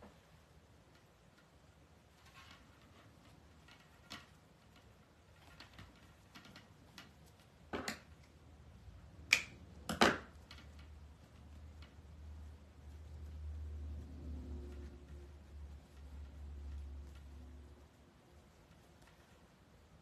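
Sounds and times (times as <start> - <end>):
ribbon and mesh rustling: 0.0 - 20.0.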